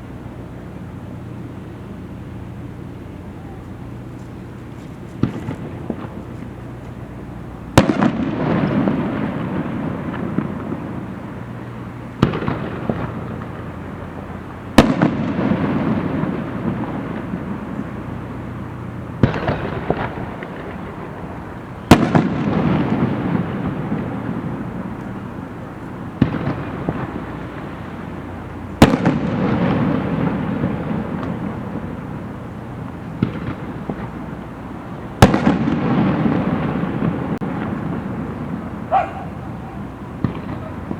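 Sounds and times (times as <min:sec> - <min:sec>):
fireworks bursting with bangs: 0:00.0 - 0:40.9
fireworks crackling: 0:00.0 - 0:40.9.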